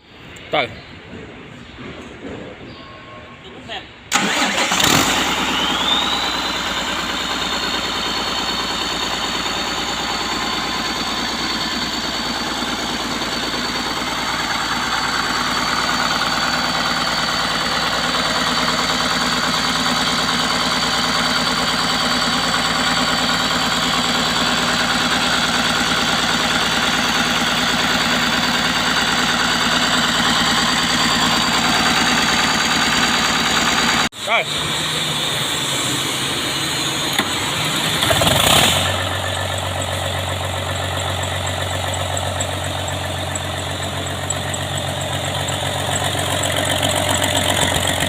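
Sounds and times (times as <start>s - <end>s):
diesel engine running: 4.1s - 48.0s.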